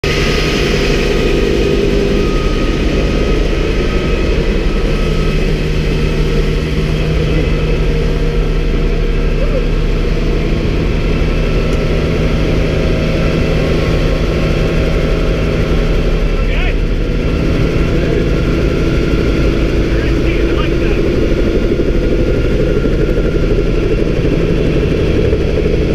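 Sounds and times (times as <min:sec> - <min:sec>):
helicopter engine and rotor drone: 0:00.0 - 0:25.9.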